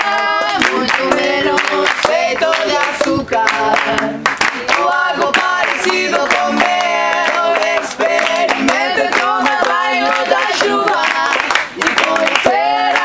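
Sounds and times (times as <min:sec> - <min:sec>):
rhythmic clapping: 0:00.0 - 0:13.0
women singing in harmony: 0:00.0 - 0:13.0.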